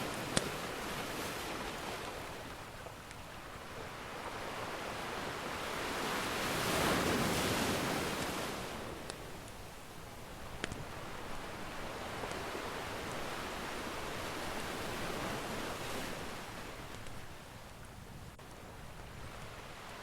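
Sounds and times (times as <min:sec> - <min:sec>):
ocean surf washing in: 0:00.0 - 0:17.6.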